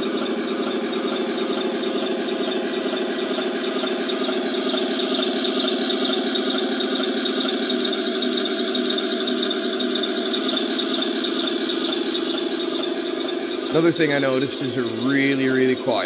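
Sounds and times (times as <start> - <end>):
simulated tank engine through speakers: 0.0 - 16.0.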